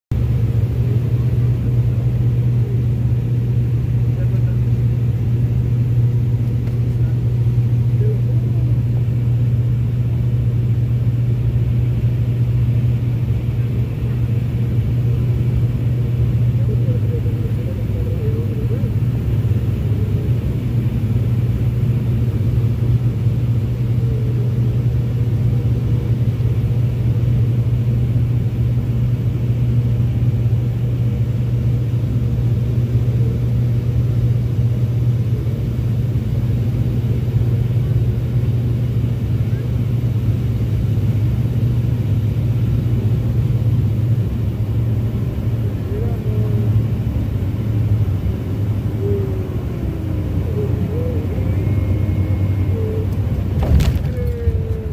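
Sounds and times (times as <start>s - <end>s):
propeller plane cabin drone: 0.1s - 54.9s.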